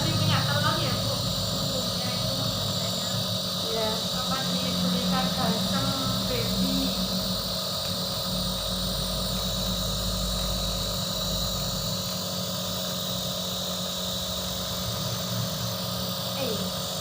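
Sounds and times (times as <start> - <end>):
nebulizer humming: 0.0 - 17.0.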